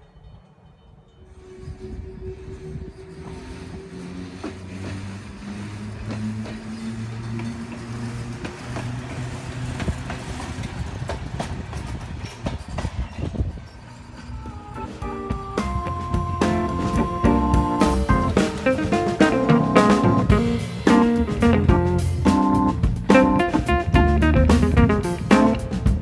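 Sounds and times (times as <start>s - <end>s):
trolley motor hum: 0.0s - 26.0s.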